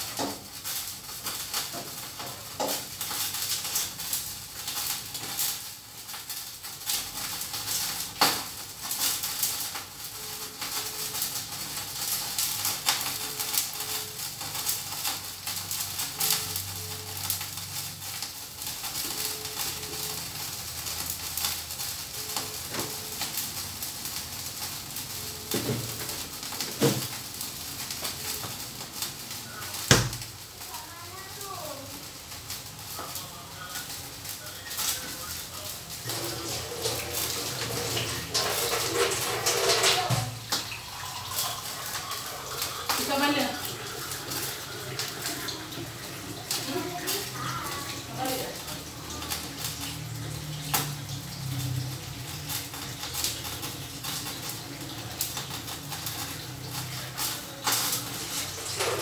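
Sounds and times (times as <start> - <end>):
food frying sizzle: 0.0 - 59.0.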